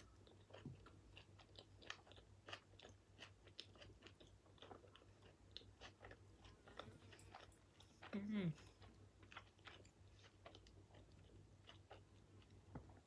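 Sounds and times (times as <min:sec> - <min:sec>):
chewing with wet mouth clicks: 0:00.0 - 0:13.0.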